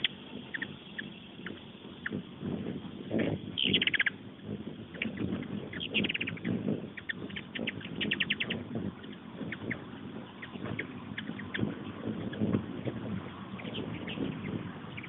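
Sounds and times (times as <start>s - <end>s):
hummingbirds chittering: 0.0s - 15.0s
low muffled rumble: 0.0s - 15.0s.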